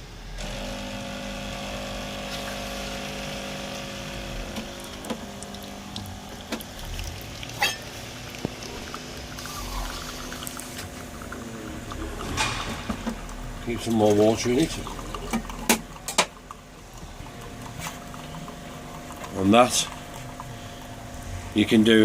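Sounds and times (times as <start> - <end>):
coffee machine pump humming: 0.4 - 22.0
coffee running into cup: 0.5 - 22.0.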